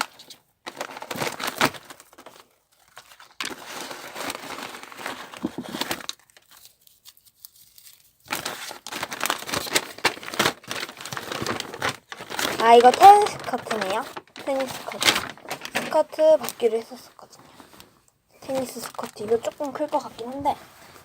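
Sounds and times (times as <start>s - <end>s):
wrapping paper crinkling and tearing: 0.0s - 21.0s.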